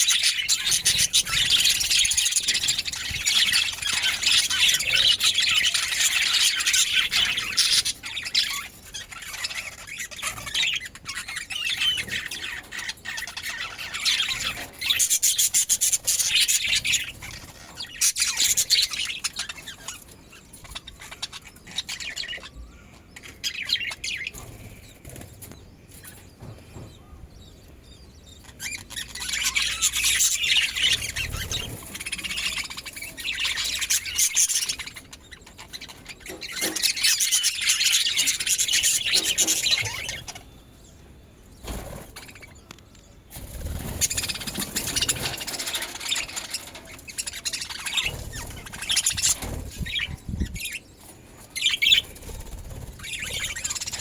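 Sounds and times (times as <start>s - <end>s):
budgerigars chattering: 0.0s - 25.3s, 28.2s - 40.6s, 41.6s - 54.0s.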